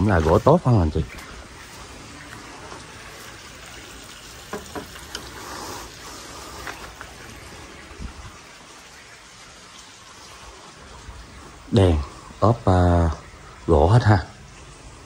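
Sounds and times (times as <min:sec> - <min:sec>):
watery hiss: 0:00.0 - 0:13.7.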